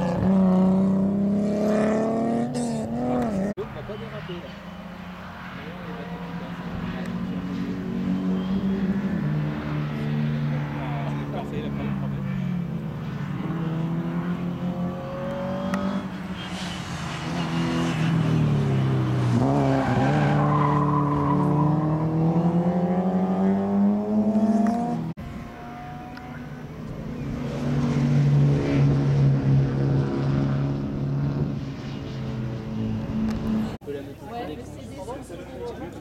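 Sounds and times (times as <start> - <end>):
car engine approaching: 0.0 - 33.9.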